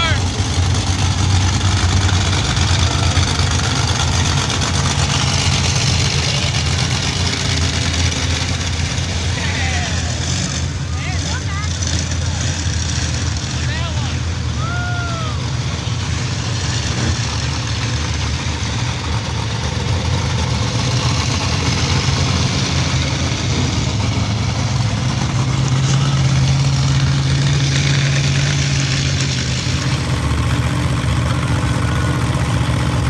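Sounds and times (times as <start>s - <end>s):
truck engine low rumble: 0.0s - 33.0s.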